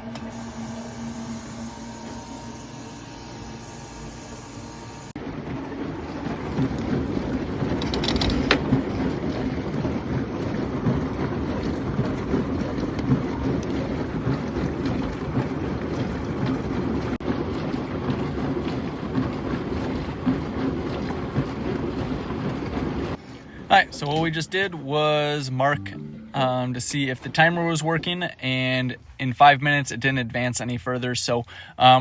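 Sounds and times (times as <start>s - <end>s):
dishwasher running: 0.0s - 28.4s.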